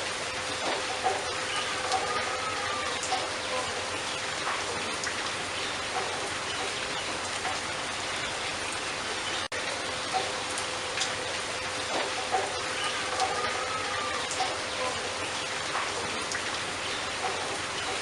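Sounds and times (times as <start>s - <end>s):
steady rain-like hiss: 0.0s - 18.0s.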